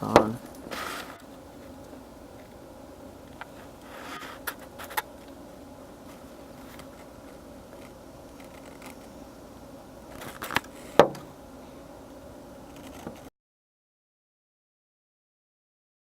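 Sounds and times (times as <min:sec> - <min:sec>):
steady low hum: 0:00.0 - 0:13.3.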